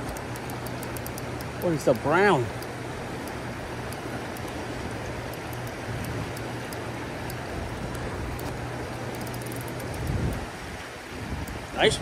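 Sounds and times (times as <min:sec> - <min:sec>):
creek water rushing: 0:00.0 - 0:12.0
low steady hum: 0:00.0 - 0:12.0.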